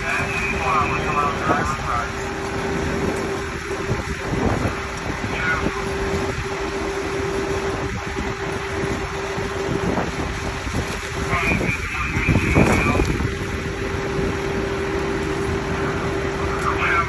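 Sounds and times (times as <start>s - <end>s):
engine idling with rough rumble: 0.0s - 17.0s.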